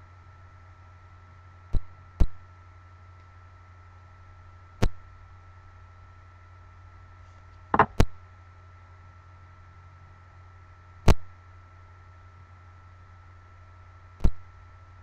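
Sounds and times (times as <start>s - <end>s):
low hum with hiss: 0.0s - 15.0s.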